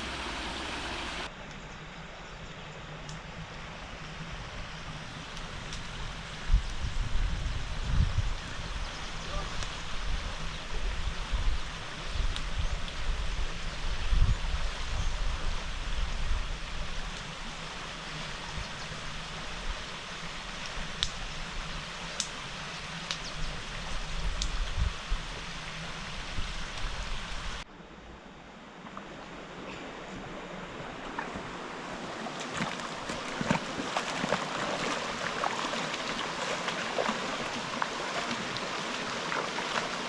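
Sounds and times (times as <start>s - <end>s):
rushing water: 0.0s - 1.4s, 3.5s - 27.7s, 28.5s - 40.0s.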